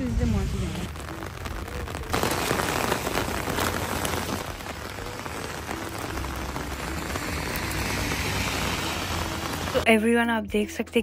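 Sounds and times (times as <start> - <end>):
rain on an umbrella: 0.0 - 10.1.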